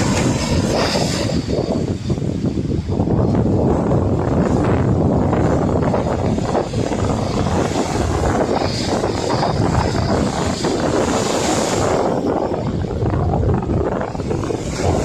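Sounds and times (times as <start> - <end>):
waves washing up: 0.0 - 15.0
wind buffeting the microphone: 0.0 - 15.0.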